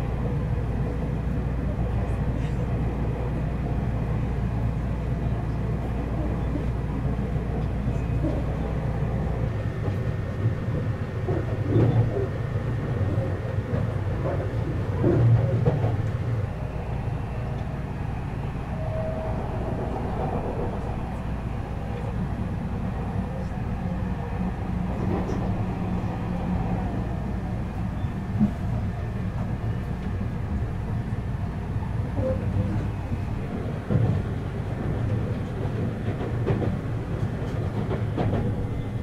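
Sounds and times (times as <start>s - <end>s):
train rumble inside cabin: 0.0s - 39.0s.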